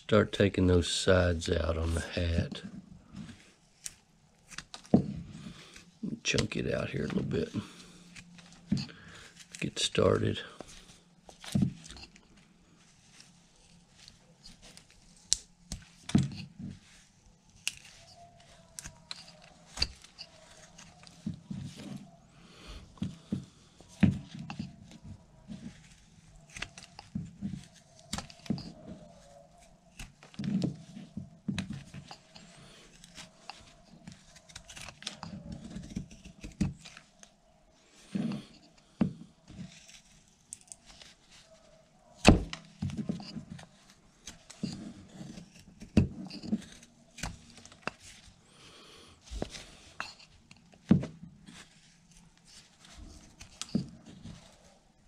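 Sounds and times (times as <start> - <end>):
knife carving wood: 0.9 - 55.0.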